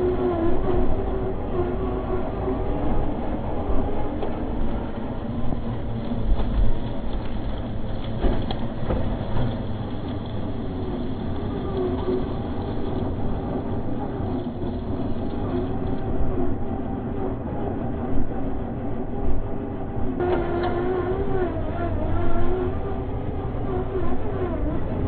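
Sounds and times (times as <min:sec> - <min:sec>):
model truck motor whining: 0:00.0 - 0:25.0.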